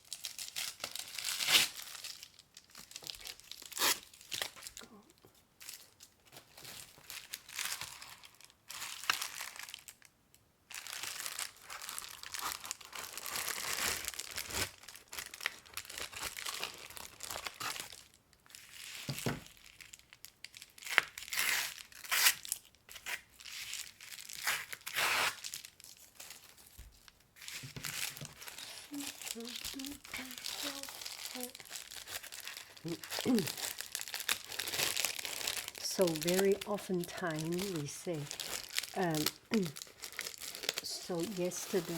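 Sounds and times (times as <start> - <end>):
packing material crumpling and tearing: 0.0 - 10.1, 10.7 - 41.9.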